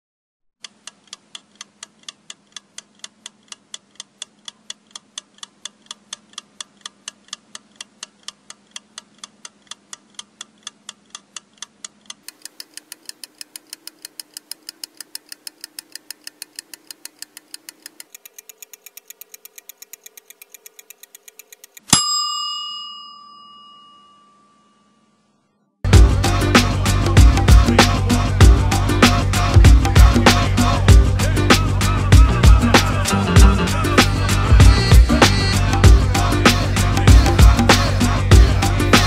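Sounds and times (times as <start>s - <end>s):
clock ticking: 0.6s - 22.1s, 27.0s - 39.0s.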